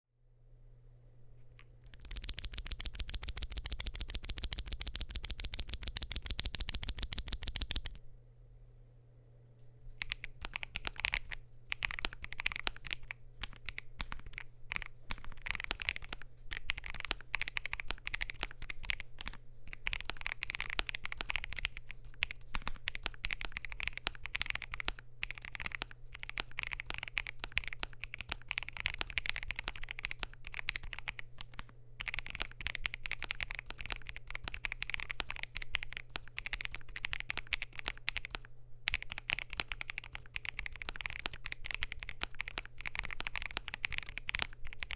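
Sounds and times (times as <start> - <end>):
fast typing on mechanical keyboard: 1.9 - 8.0, 10.0 - 44.9.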